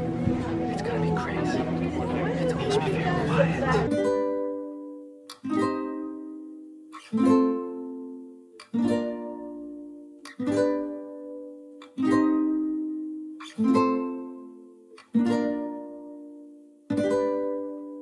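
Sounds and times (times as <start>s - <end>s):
slow strummed string chords: 0.0s - 18.0s.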